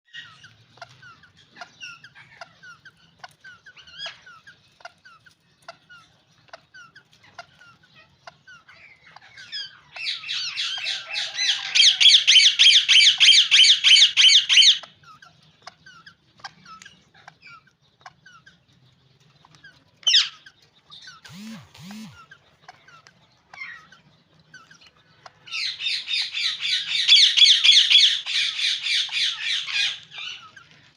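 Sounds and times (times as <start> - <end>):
parakeets calling: 0.1 - 30.9.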